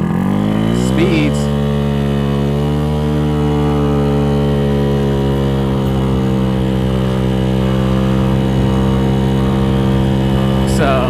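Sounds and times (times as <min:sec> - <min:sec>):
scooter engine running hard: 0:00.0 - 0:11.0.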